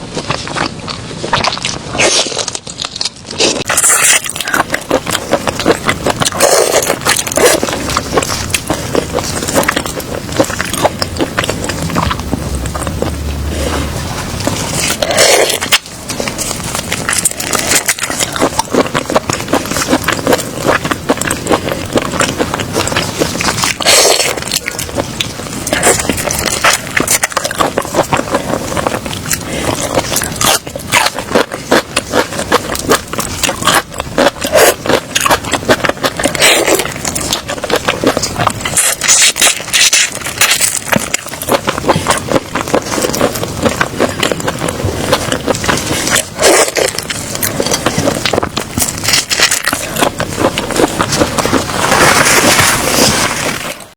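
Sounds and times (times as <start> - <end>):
crunching and chewing: 0.0 - 53.9.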